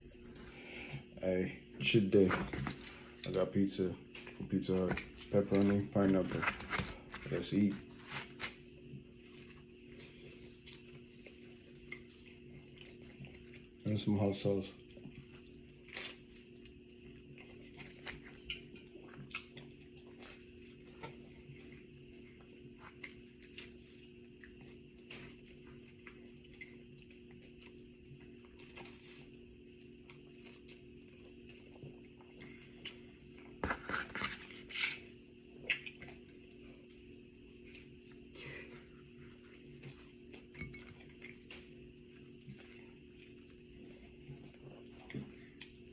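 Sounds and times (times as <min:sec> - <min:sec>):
person chewing pizza: 0:00.0 - 0:45.9.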